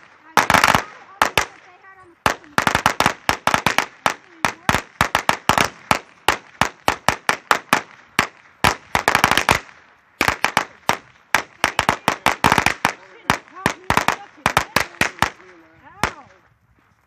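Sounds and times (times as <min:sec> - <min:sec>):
firecrackers popping: 0:00.0 - 0:16.7.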